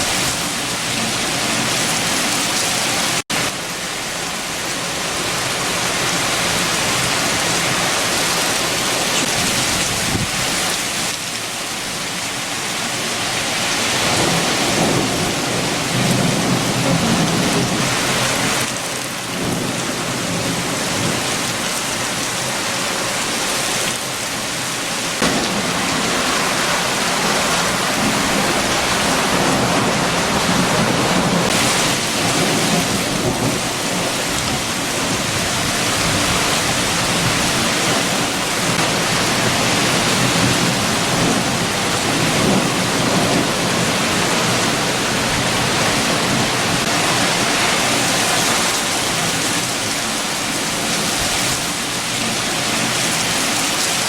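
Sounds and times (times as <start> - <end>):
heavy rain: 0.0 - 54.0
strong wind: 0.0 - 54.0.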